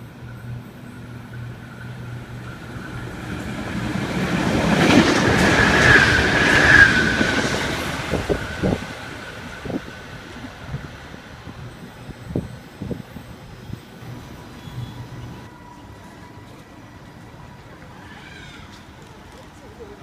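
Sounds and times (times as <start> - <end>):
train engine and wheel noise: 0.0 - 20.0.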